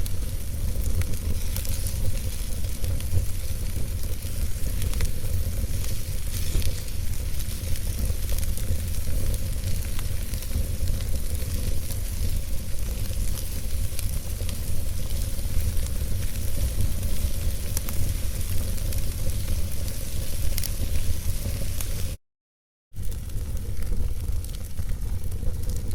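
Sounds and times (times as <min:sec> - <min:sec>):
fire burning in fireplace: 0:00.0 - 0:22.2, 0:23.0 - 0:25.9
fire crackles and pops: 0:00.0 - 0:22.2, 0:23.0 - 0:25.9.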